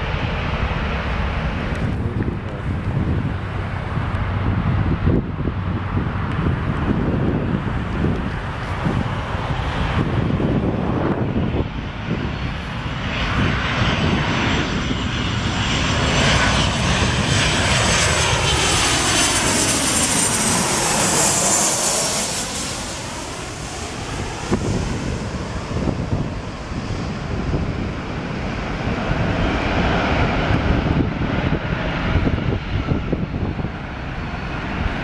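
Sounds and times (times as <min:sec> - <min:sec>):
jet airliner engines whining: 0:00.0 - 0:35.0.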